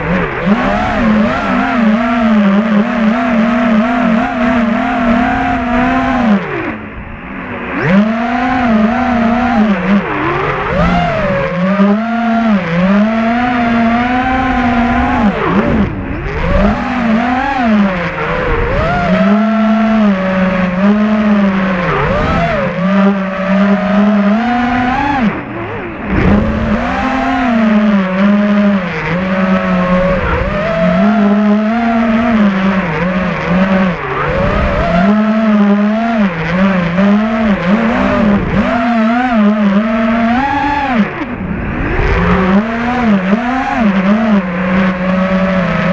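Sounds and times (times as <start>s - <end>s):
drone propellers whining: 0.0s - 45.9s.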